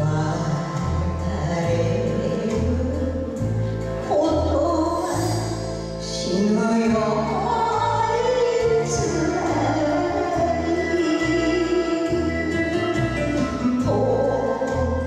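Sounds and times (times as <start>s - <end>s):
karaoke backing track: 0.0s - 15.0s
woman singing into a microphone: 0.0s - 15.0s.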